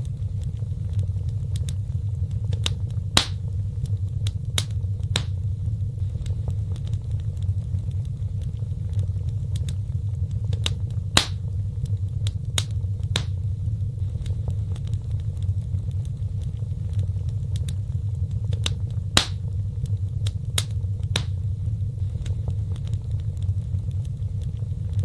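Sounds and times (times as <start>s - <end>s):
fire low rumble: 0.0s - 25.0s
wood fire crackling and popping: 0.0s - 25.0s.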